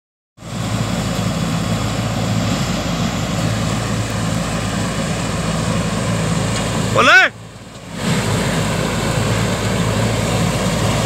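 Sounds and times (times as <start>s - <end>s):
combine harvester engine drone: 0.4s - 11.0s.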